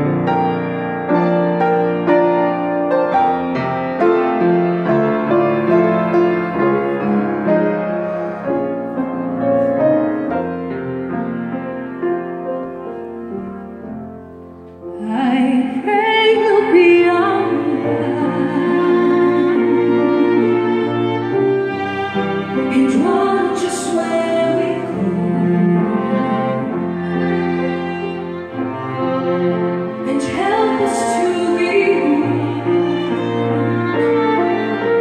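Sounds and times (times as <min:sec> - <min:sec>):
grand piano playing: 0:00.0 - 0:35.0
violin melody with vibrato: 0:00.0 - 0:35.0.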